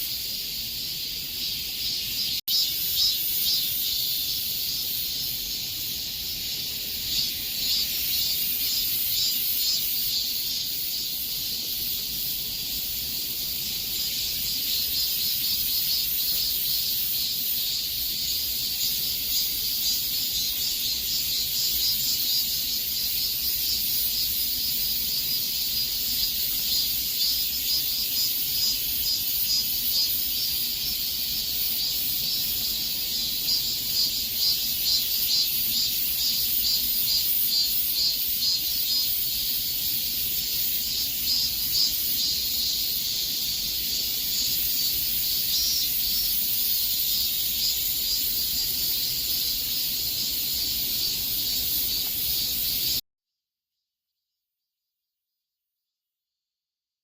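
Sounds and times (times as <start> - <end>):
cicadas droning: 0.0 - 53.0.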